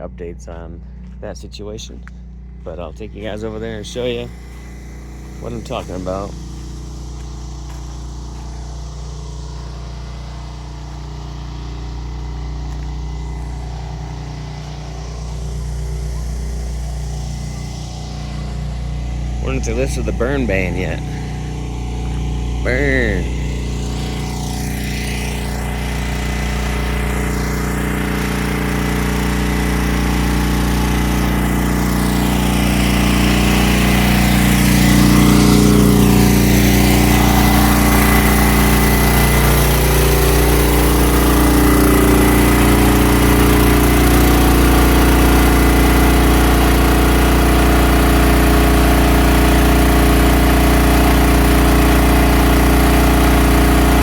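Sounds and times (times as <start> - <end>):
generator engine running: 0.0 - 54.0.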